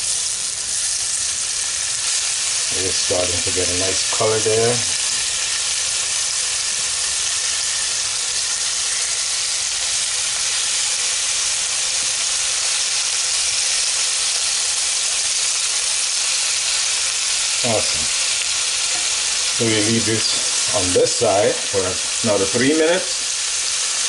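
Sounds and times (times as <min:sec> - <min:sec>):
meat sizzling in a pot: 0:00.0 - 0:24.0.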